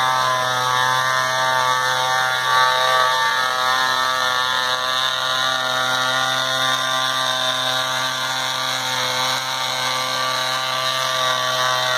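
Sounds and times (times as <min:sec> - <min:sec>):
small model engine droning: 0:00.0 - 0:11.9.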